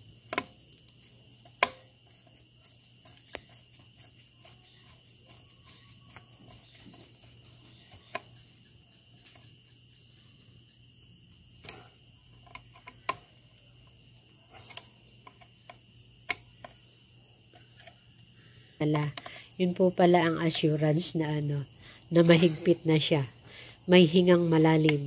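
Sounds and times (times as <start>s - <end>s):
faint high-pitched chirr: 0.6s - 25.0s.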